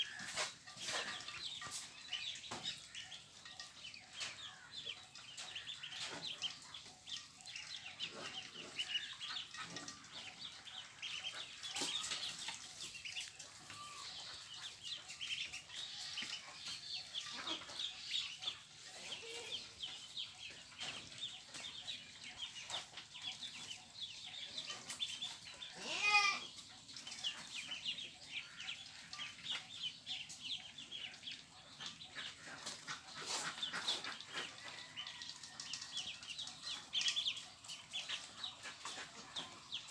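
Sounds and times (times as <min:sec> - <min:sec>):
young poultry peeping: 0:00.0 - 0:39.9.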